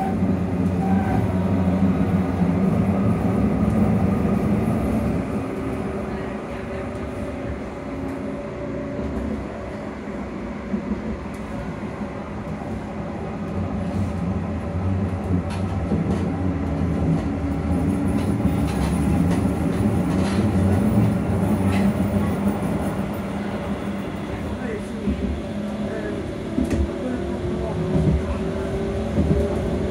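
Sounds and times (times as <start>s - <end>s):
rail running noise: 0.0s - 29.9s.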